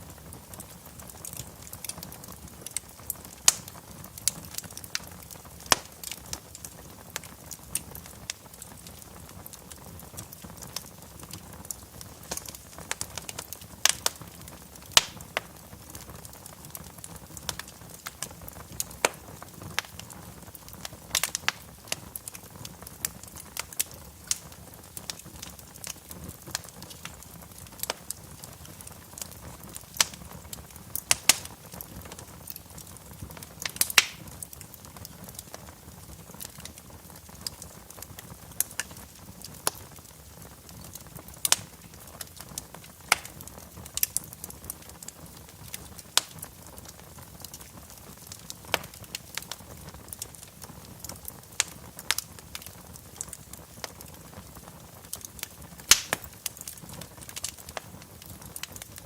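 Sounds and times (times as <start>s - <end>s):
wood fire crackling and popping: 0.0s - 59.0s
rush of flames: 0.1s - 59.0s.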